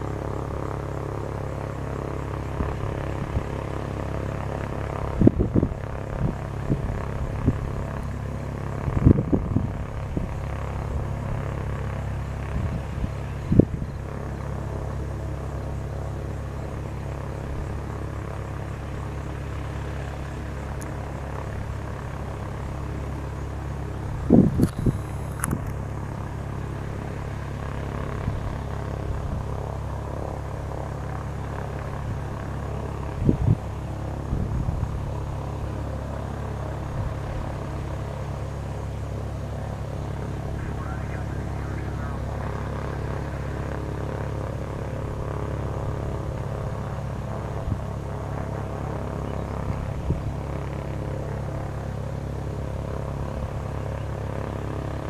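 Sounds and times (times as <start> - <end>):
airplane engine droning: 0.0 - 55.0.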